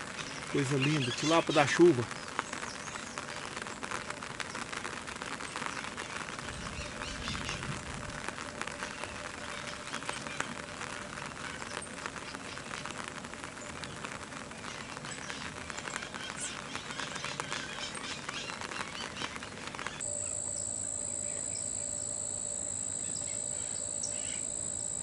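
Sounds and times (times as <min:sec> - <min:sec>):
rain falling on water: 0:00.0 - 0:25.0.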